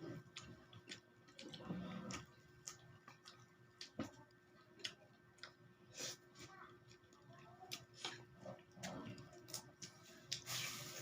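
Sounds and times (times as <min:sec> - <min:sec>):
mouth chewing food: 0:00.0 - 0:10.5.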